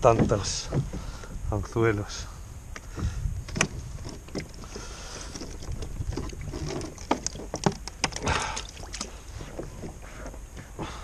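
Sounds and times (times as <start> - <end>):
clicks and knocks on kayak: 0.0 - 1.4, 2.7 - 11.0.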